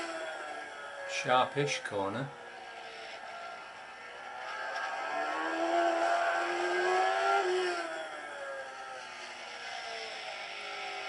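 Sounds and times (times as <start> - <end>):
racing motorcycle engine: 0.0 - 11.0.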